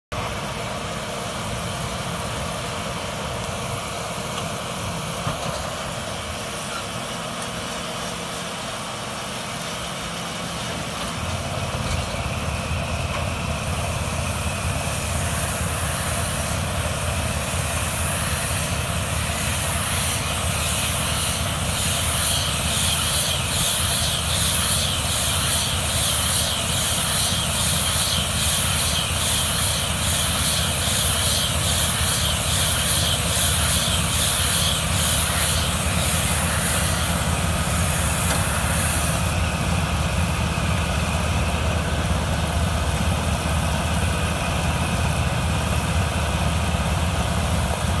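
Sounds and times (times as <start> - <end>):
tractor engine drone: 0.1 - 48.0
high-pitched machinery clatter: 3.4 - 48.0.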